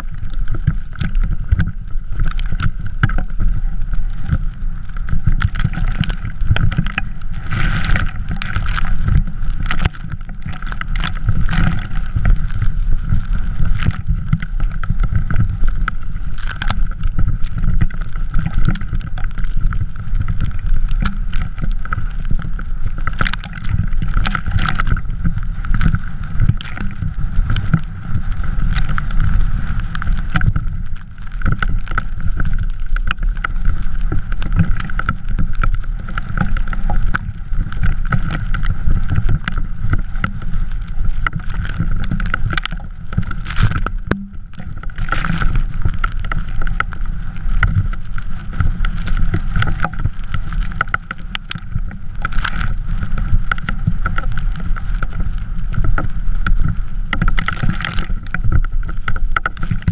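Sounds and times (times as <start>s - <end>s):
wheels rumbling and rattling on snow: 0.0s - 59.9s.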